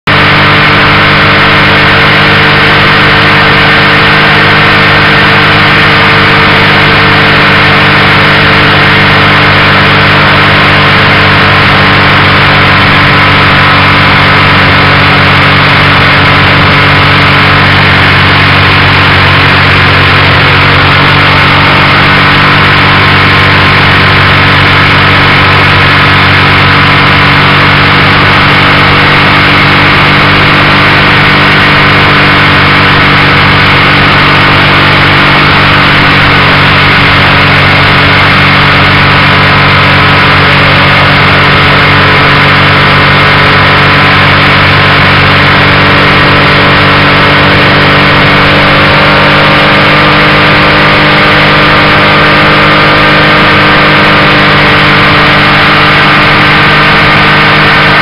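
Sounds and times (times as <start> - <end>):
motorcycle engine droning: 0.0 - 58.0
wind and road noise: 0.1 - 58.0.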